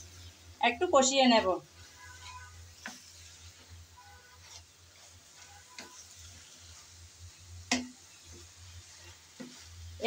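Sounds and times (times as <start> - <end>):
light sizzling: 0.0 - 10.0
wooden spatula scraping pan: 1.6 - 10.0.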